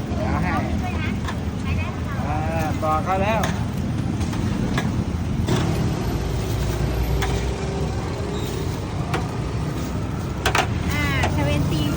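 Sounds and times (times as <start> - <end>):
street traffic rumble: 0.0 - 11.9.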